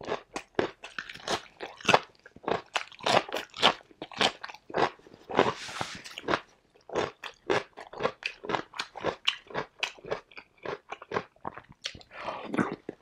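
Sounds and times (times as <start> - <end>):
chewing crunchy cucumber: 0.0 - 13.0.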